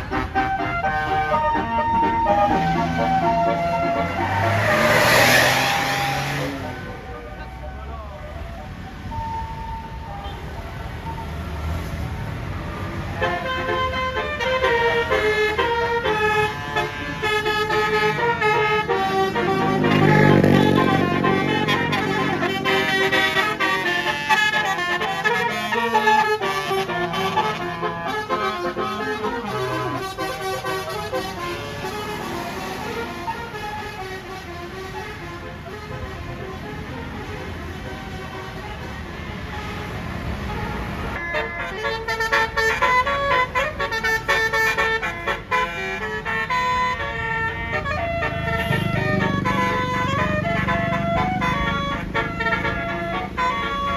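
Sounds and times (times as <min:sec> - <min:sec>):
multi-tone air horn melody: 0:00.0 - 0:07.1, 0:12.8 - 0:53.9
street noise: 0:00.0 - 0:53.9.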